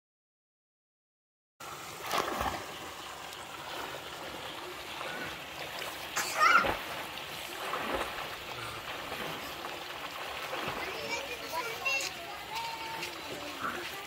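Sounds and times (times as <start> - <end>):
running water splashing: 1.6 - 14.0.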